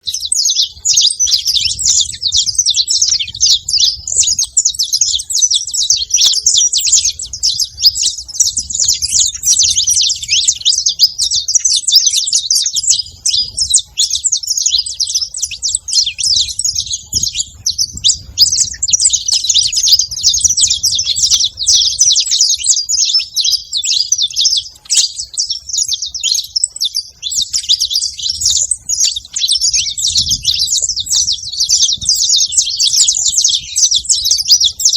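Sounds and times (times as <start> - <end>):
finches chirping and calling: 0.0 - 34.9.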